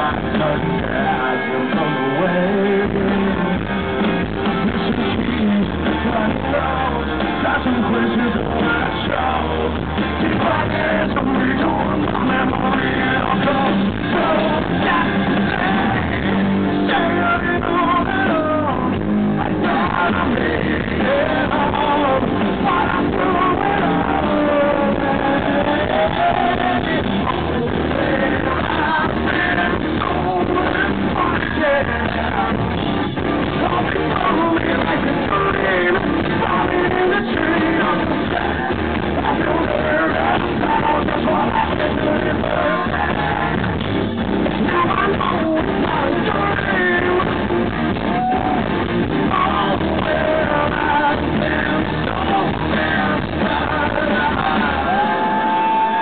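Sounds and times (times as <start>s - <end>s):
electric guitars: 0.0s - 56.0s
live rock band playing: 0.0s - 56.0s
man singing: 0.0s - 56.0s.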